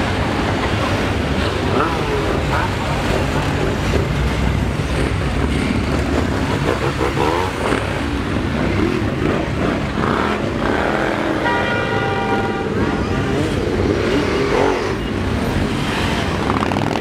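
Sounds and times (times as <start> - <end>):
motorcycle revving: 0.0 - 17.0
motorcycles riding past: 0.0 - 17.0.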